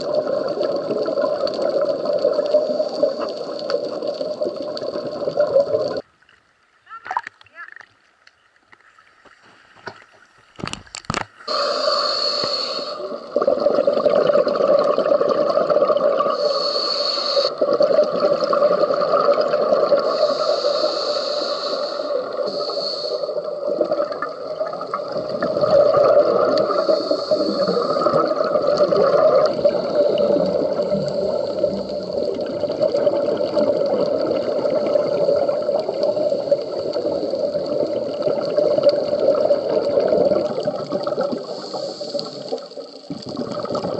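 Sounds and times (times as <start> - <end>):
regulator bubbles gurgling: 0.0 - 6.0, 11.5 - 43.9.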